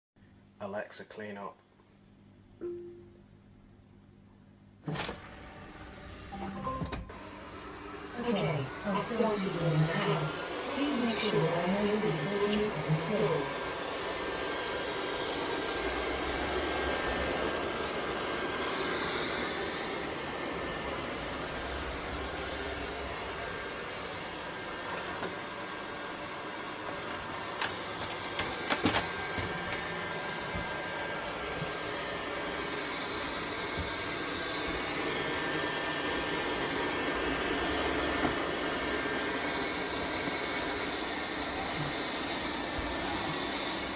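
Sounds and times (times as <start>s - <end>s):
robot vacuum fan whirring: 4.8s - 43.9s.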